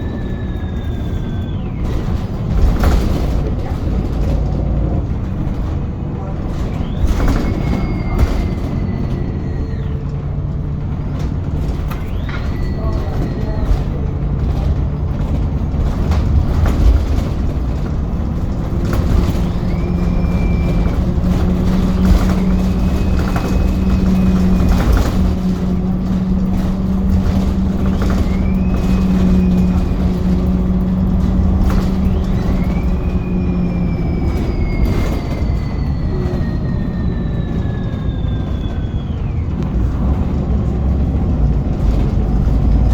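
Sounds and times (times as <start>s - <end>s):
bus drivetrain drone: 0.0s - 42.9s
high differential whine: 0.0s - 42.9s.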